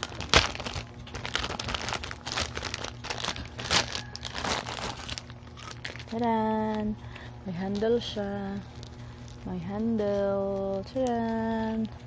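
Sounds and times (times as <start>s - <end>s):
plastic packaging crinkling: 0.0s - 6.9s, 7.7s - 12.0s.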